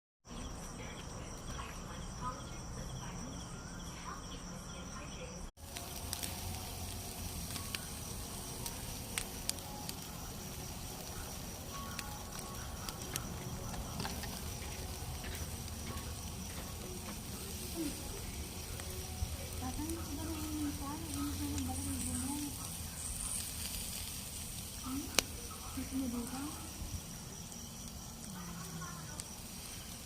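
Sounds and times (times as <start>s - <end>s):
crickets chirping: 0.2s - 30.0s.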